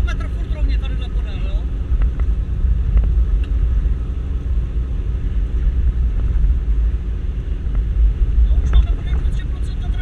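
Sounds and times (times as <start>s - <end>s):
engine and tyres rumbling: 0.0s - 10.0s.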